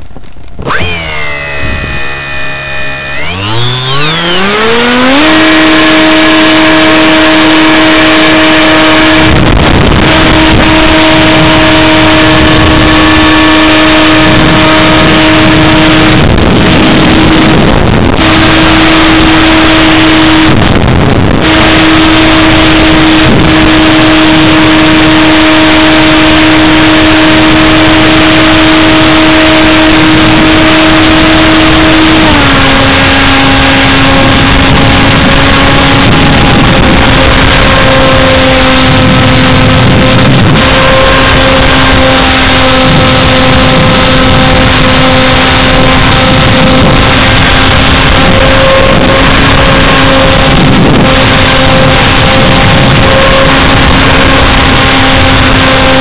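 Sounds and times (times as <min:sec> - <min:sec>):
electric motor and propeller whine: 0:00.0 - 0:56.0
rush of wind noise: 0:00.0 - 0:56.0.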